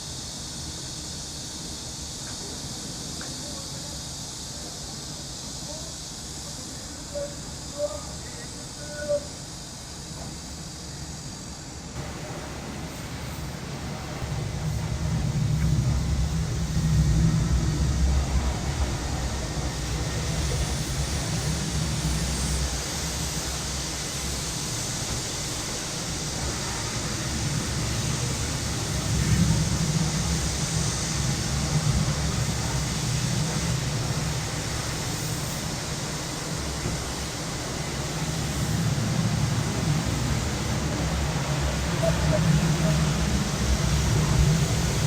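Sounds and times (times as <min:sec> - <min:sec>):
cicadas hissing: 0:00.0 - 0:45.0
city traffic rumble: 0:00.0 - 0:45.0.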